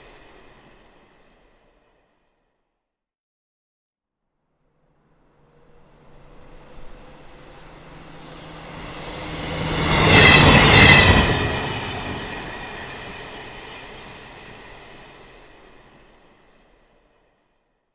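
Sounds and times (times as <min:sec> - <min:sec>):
train passing: 0:00.0 - 0:02.3, 0:04.8 - 0:17.3.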